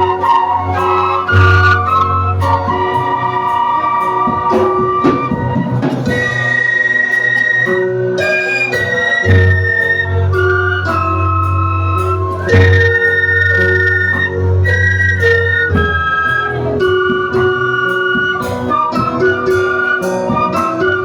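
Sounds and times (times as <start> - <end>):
instrumental music with drum beat: 0.0 - 21.0.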